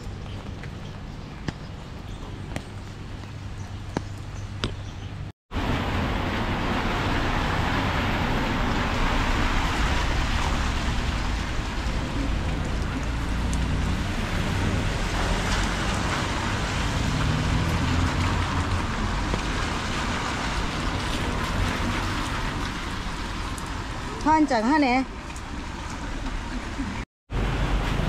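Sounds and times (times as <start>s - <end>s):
street ambience: 0.0s - 28.0s.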